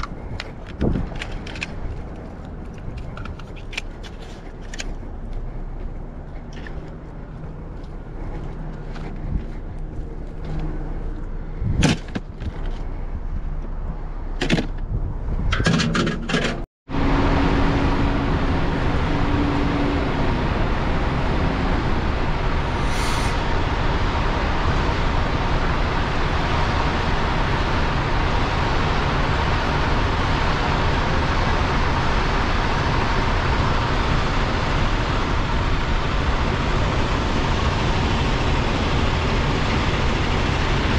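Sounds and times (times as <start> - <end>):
car road and tyre noise: 0.0 - 40.9.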